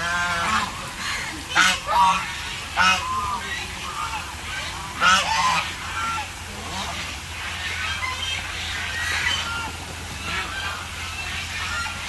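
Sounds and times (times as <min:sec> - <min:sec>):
ducks calling harshly: 0:00.0 - 0:12.0.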